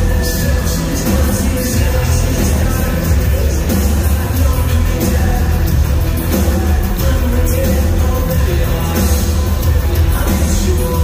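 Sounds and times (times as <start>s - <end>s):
electro-industrial band playing live: 0.0s - 11.0s.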